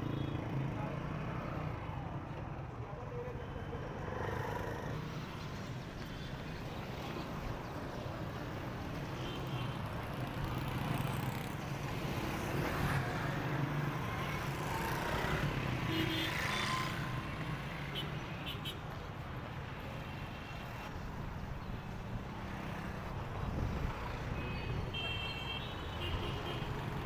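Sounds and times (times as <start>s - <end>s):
road and traffic rumble: 0.0s - 27.0s
vehicles passing close by: 0.0s - 27.0s.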